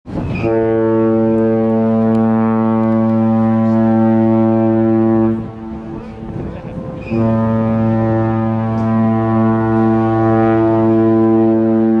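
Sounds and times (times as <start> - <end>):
ship's horn long blast: 0.1 - 12.0.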